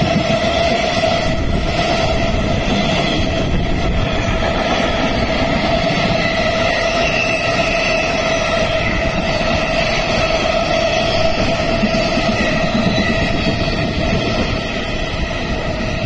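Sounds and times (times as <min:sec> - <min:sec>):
freight train wheels on rails: 0:00.0 - 0:16.0.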